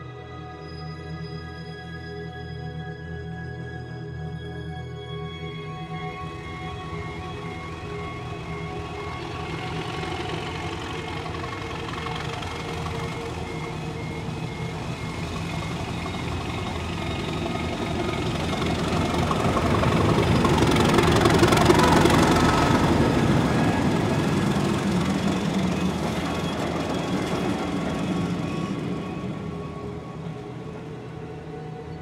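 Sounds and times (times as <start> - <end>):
steam train passing: 5.8 - 32.0.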